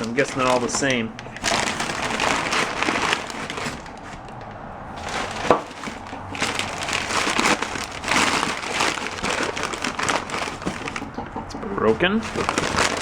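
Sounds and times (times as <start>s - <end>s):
wrapping crinkling: 0.0s - 13.0s.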